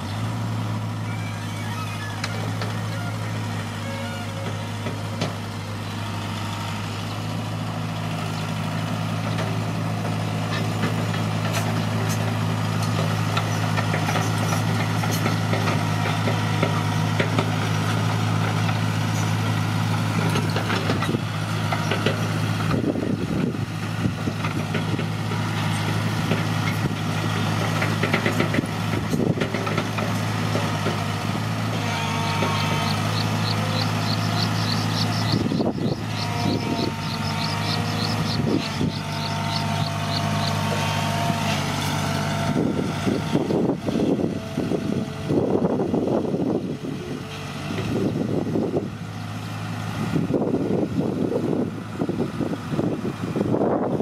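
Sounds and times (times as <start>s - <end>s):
diesel machine engine running: 0.0s - 54.0s.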